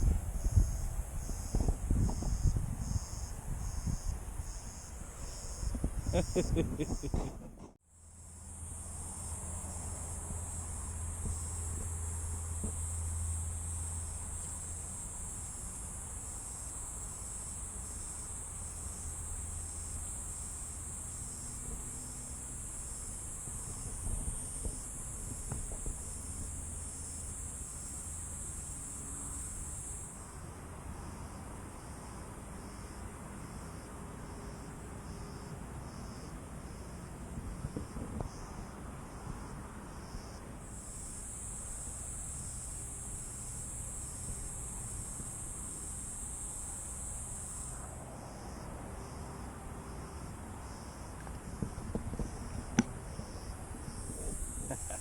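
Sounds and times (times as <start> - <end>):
insect pulsed chirp: 0.0 - 7.3, 8.0 - 36.9, 37.5 - 55.0
insect high buzz: 0.0 - 7.4, 8.0 - 55.0.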